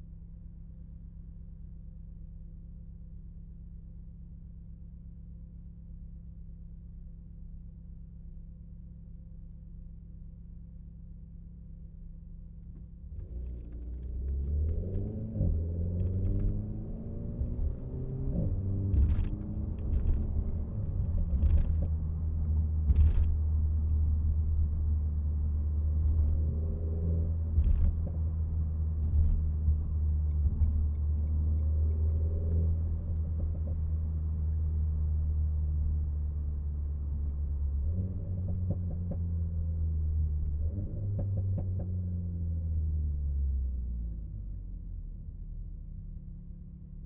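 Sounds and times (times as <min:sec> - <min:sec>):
car engine running at low revs: 0:00.0 - 0:47.0.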